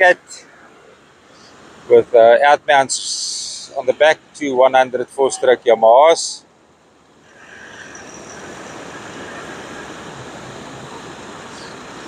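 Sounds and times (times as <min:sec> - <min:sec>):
surf washing: 0:00.0 - 0:06.4, 0:07.0 - 0:12.0
steady engine noise: 0:00.0 - 0:12.0.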